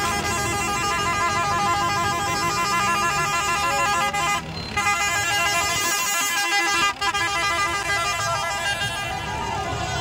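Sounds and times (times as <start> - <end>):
vehicle horns warbling chord: 0.0 - 10.0.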